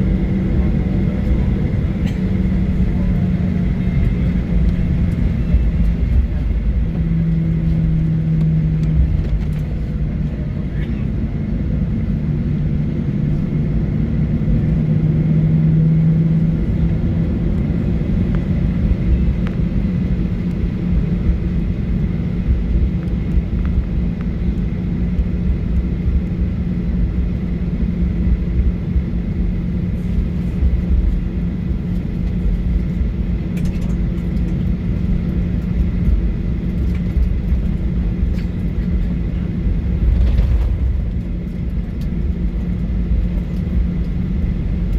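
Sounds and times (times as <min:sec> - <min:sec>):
airplane cabin engine drone: 0:00.0 - 0:44.9
uneven low rumble: 0:00.0 - 0:44.9.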